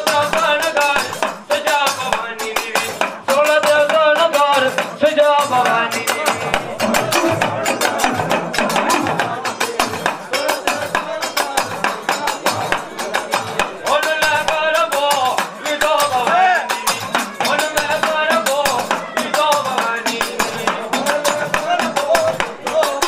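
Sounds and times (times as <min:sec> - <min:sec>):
hand drum beats: 0:00.0 - 0:23.0
man singing into a microphone: 0:00.0 - 0:23.0.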